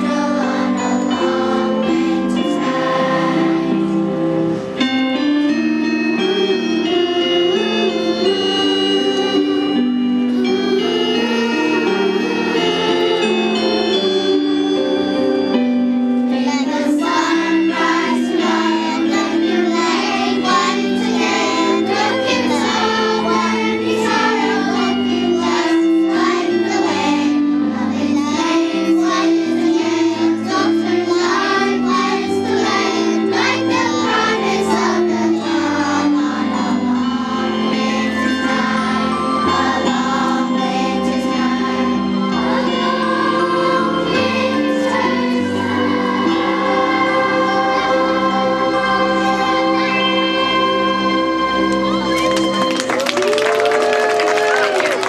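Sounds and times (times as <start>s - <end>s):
children's choir singing: 0.0s - 55.0s.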